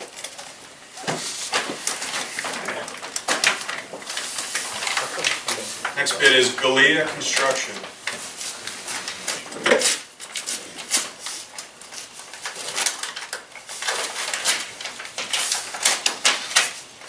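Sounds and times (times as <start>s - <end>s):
paper rustling and crinkling: 0.0s - 17.0s.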